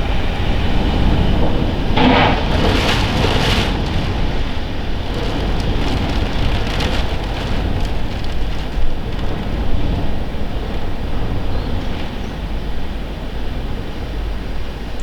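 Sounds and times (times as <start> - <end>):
wind buffeting microphone: 0.0 - 14.5.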